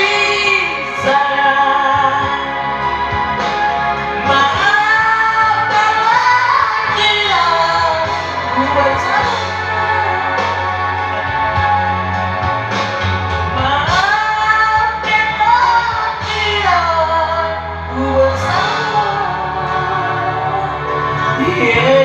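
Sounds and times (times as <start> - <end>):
music backing track with bass: 0.0 - 22.0.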